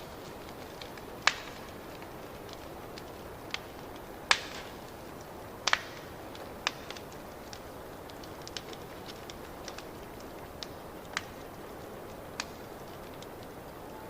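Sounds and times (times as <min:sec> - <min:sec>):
sharp pops of fire: 0:00.0 - 0:14.0
wood fire crackling: 0:00.0 - 0:14.0.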